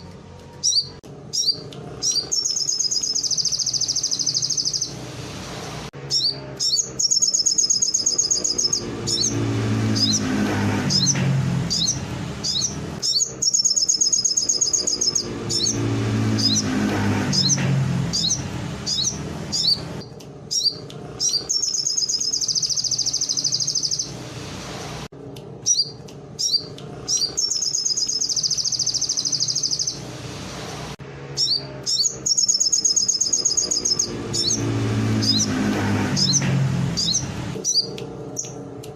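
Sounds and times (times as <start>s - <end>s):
songbird trilling and chirping: 0.6s - 5.0s, 6.1s - 10.3s, 10.9s - 15.8s, 16.4s - 24.1s, 25.6s - 30.0s, 31.4s - 35.6s, 36.2s - 38.6s.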